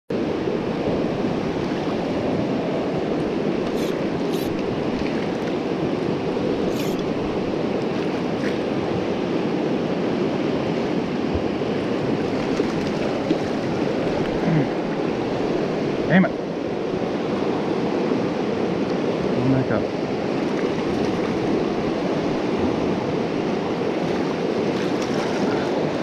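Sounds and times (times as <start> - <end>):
river rushing: 0.1 - 26.0.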